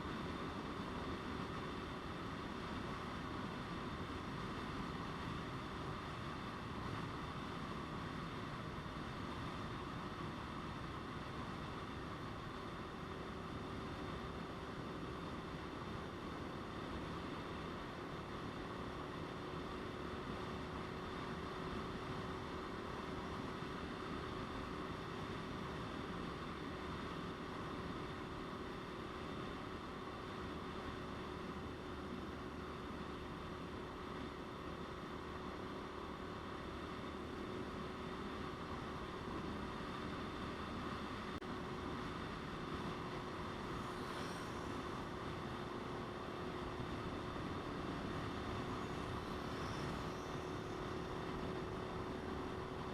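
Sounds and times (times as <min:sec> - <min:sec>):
faint motorcycle engine hum: 0:00.0 - 0:52.9
wind and road noise: 0:00.0 - 0:52.9.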